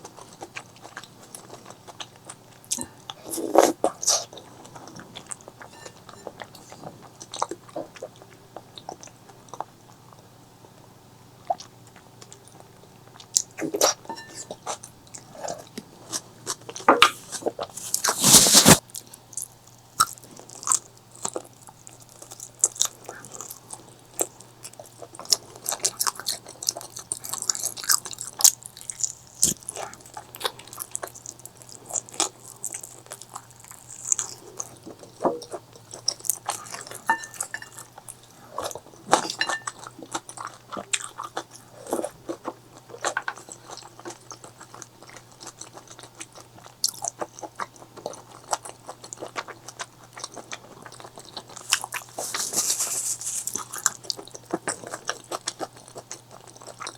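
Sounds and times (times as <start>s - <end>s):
mouth chewing and crunching food: 0.0s - 56.9s.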